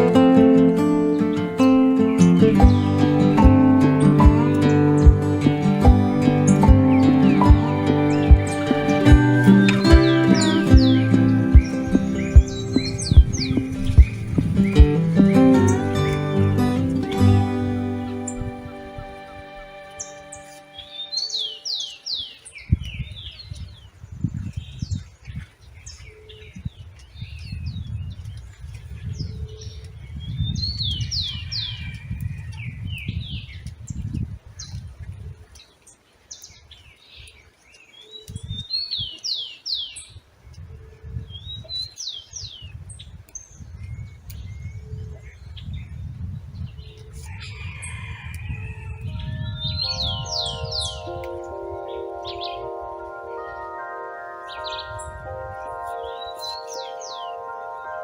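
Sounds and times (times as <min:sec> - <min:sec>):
songbird singing: 0:00.0 - 0:34.8, 0:41.3 - 0:58.0.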